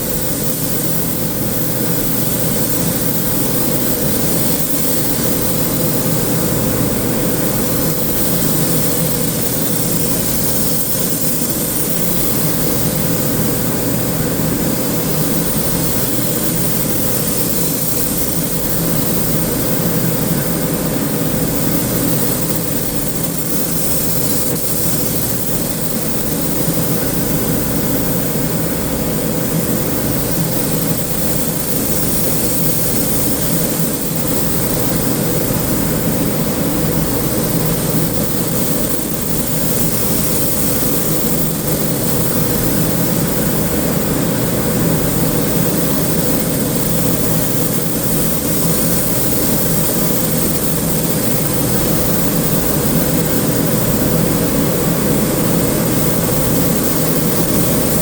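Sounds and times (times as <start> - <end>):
steady machine drone: 0.0 - 58.0.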